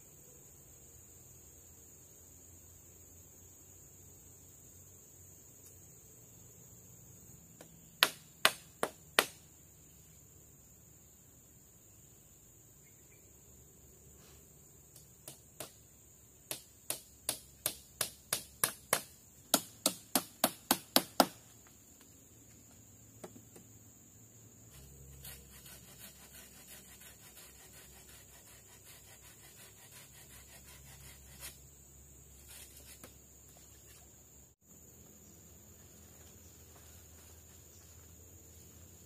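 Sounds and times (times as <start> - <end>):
faint chorus of insects: 0.0 - 39.0.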